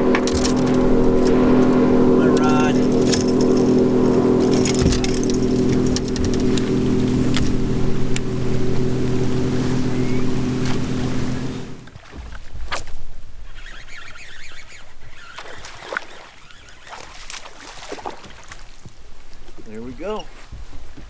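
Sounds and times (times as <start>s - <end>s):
electric boat motor humming: 0.0s - 12.0s, 13.2s - 19.4s.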